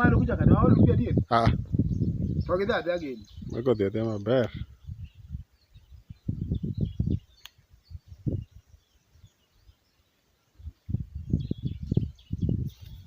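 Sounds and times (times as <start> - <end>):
wind buffeting microphone: 0.0 - 9.8, 10.5 - 13.0.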